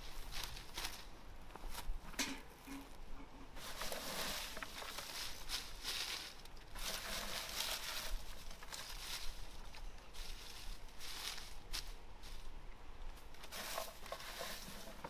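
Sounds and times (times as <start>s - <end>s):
dry leaves and twigs crackling: 0.0s - 15.0s.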